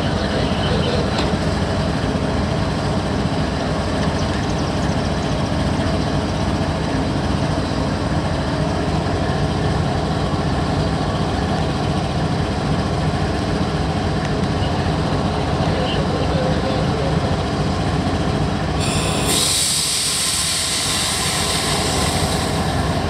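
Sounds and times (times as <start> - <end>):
diesel locomotive engine running: 0.0 - 23.0.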